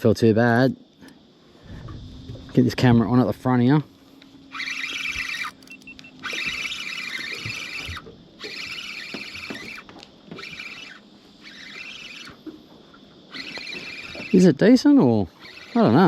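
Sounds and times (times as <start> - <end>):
fishing reel buzzing: 1.0 - 16.0.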